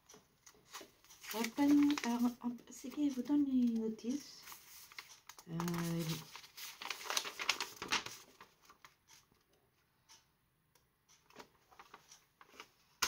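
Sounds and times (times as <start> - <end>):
paper rustling: 0.4 - 9.2, 11.3 - 13.0.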